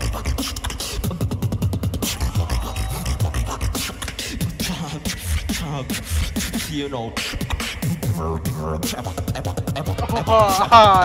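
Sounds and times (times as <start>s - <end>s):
beatboxing into a microphone: 0.0s - 11.0s.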